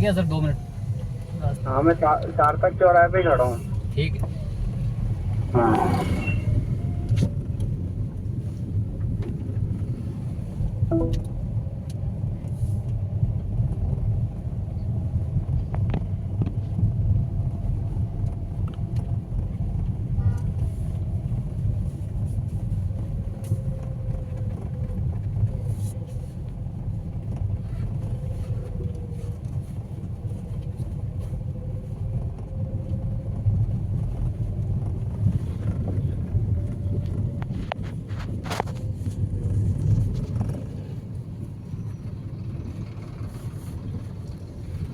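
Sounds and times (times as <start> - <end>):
vehicle road rumble: 0.0 - 44.9
wavering engine hum: 0.0 - 44.9.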